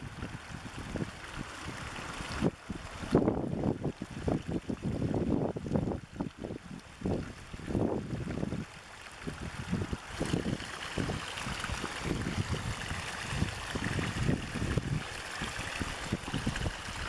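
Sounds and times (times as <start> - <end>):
water gurgling: 0.0 - 17.0
water splashing over ledge: 0.0 - 17.0.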